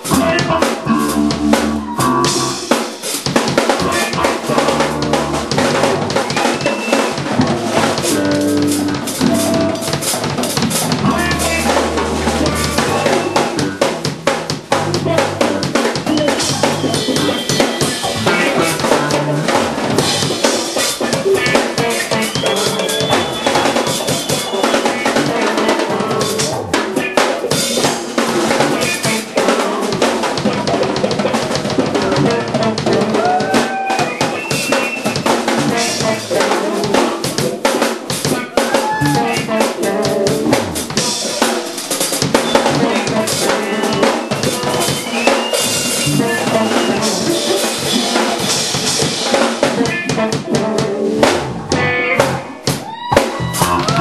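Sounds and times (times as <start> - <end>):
drum kit playing: 0.0 - 54.0
electric guitars: 0.0 - 54.0.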